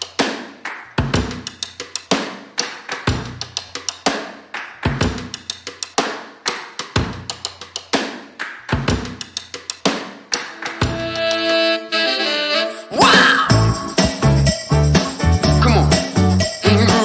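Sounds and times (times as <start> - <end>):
drum kit playing steady beat: 0.0 - 11.7, 13.4 - 17.0.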